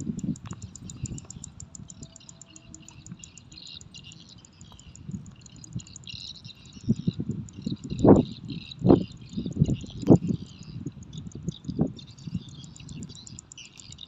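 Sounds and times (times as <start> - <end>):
birds chirping: 0.0 - 14.0
insect chirping: 0.0 - 14.0.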